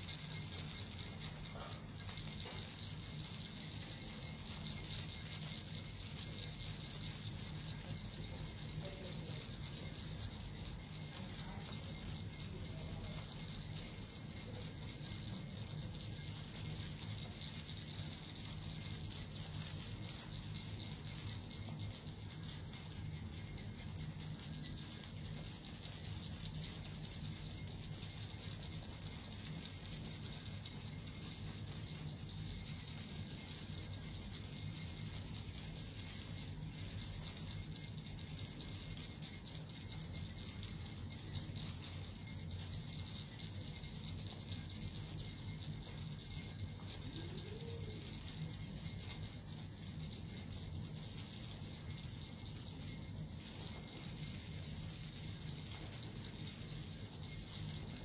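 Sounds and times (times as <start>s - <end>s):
small jingle bells shaken: 0.0s - 58.0s.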